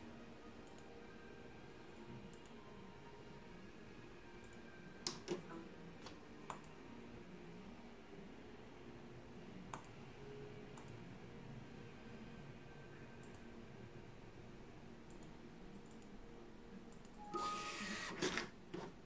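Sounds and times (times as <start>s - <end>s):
faint room noise: 0.0s - 19.0s.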